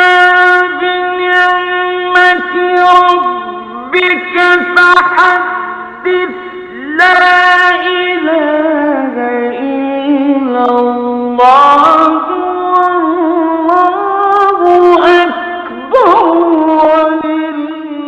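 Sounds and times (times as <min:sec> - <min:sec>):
man chanting recitation: 0:00.0 - 0:18.0.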